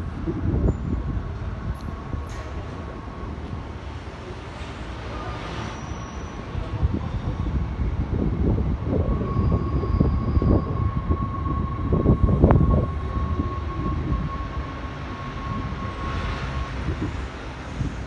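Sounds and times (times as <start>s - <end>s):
train rumbling on track: 0.0s - 18.0s
rising squeal: 0.4s - 18.0s.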